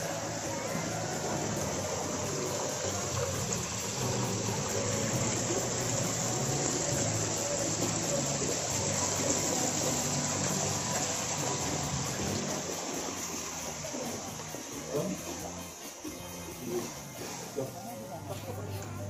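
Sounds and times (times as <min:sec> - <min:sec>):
waterfall splashing into pond: 0:00.0 - 0:16.2.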